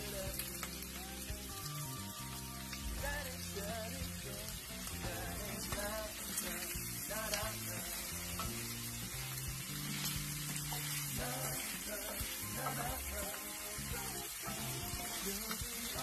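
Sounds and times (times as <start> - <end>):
meat sizzling in a skillet: 0.0 - 16.0.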